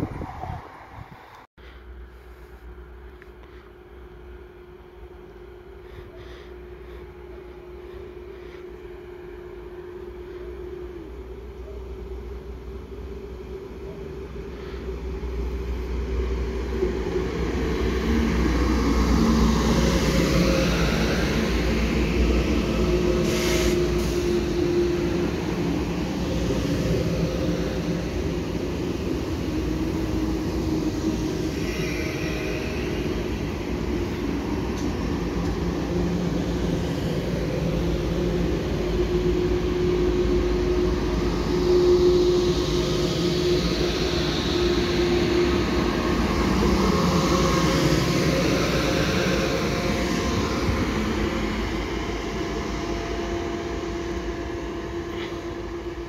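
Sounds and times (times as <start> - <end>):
high-speed train passing: 0.0 - 56.0
train humming tone: 0.0 - 56.0.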